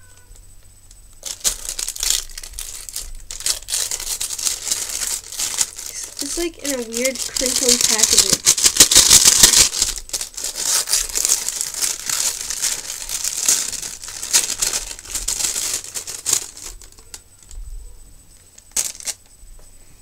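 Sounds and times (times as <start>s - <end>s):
wrapping crumpling and crackling: 0.0s - 19.3s.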